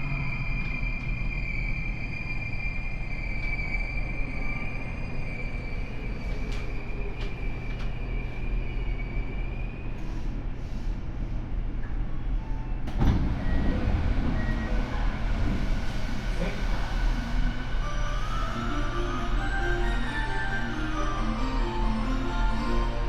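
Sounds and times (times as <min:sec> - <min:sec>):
subway car wheels rumbling: 0:00.0 - 0:23.0.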